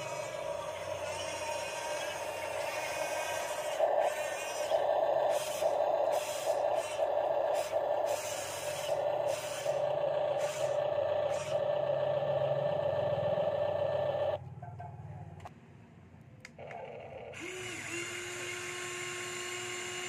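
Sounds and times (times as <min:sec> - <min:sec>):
electric motors whining: 0:00.0 - 0:14.4, 0:16.6 - 0:20.0.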